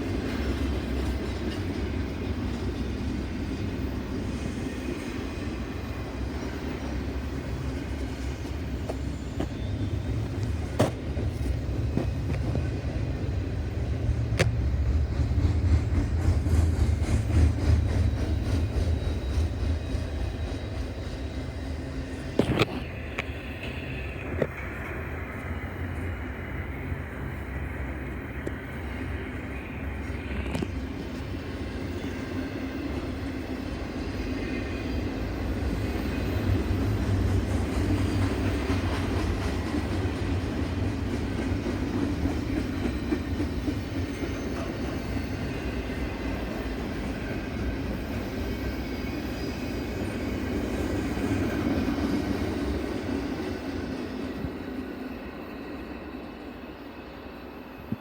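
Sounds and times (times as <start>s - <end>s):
train rolling over rails: 0.0s - 58.0s.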